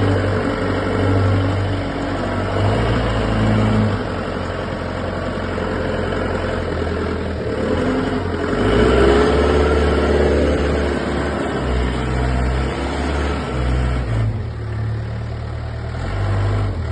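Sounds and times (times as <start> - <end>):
forklift engine revving: 0.0 - 16.9.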